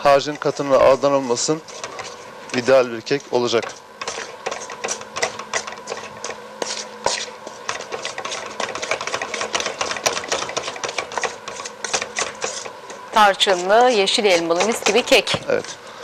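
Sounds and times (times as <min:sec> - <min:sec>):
spatula beating batter in steel bowl: 0:00.0 - 0:16.0.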